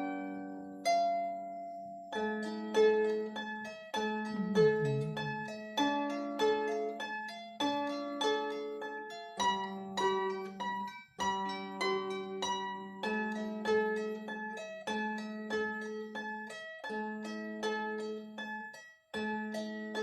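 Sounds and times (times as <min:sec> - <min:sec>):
harp plucked melody: 0:00.0 - 0:20.0.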